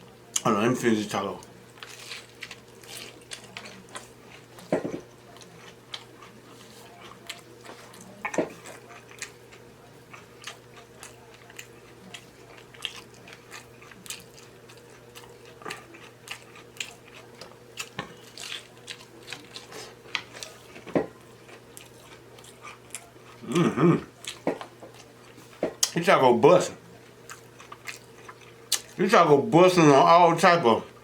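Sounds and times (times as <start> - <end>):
person chewing crunchy food: 1.4 - 26.0, 26.9 - 29.0.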